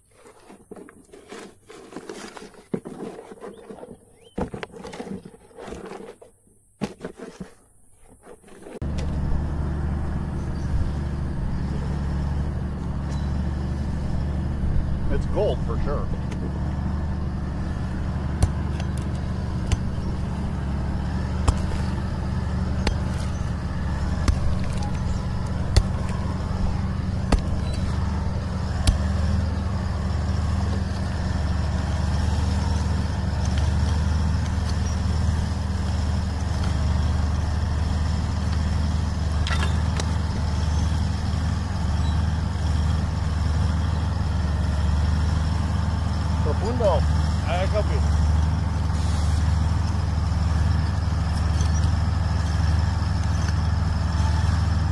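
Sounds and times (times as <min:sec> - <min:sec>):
diesel engine droning: 0:08.8 - 0:54.9.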